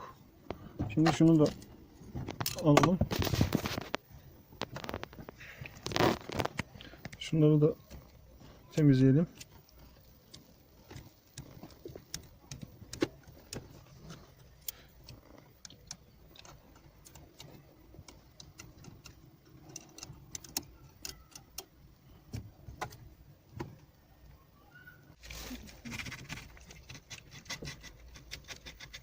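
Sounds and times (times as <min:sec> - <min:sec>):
small parts clicking and tapping: 0:00.4 - 0:24.0.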